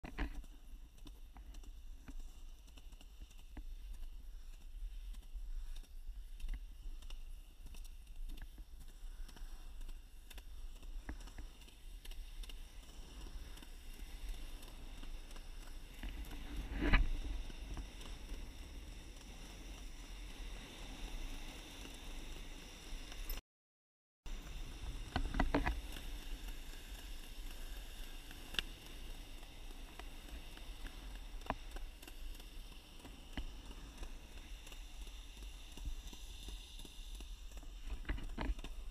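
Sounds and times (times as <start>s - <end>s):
skateboard rolling on concrete: 0.0s - 23.4s, 24.3s - 38.9s.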